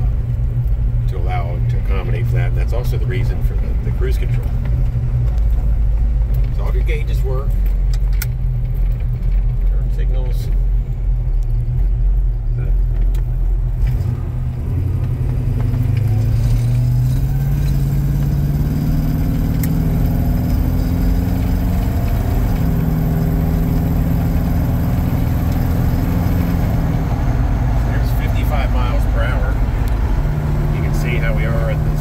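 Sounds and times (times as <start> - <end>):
pickup truck engine accelerating: 0.0 - 32.0
road rumble: 0.0 - 32.0.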